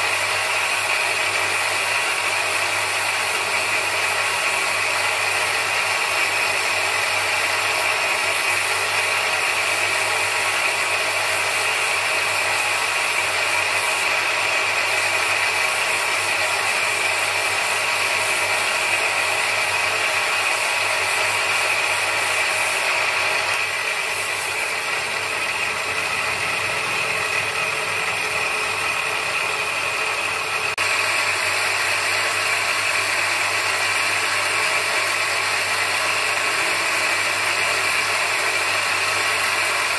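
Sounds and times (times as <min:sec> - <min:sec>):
bench grinder whirring: 0:00.0 - 0:39.9
stone grinding hiss: 0:03.2 - 0:39.9.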